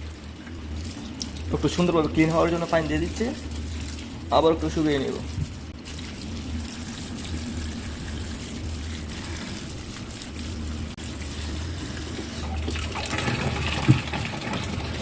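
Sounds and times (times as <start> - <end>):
water running into washing machine: 0.0 - 15.0.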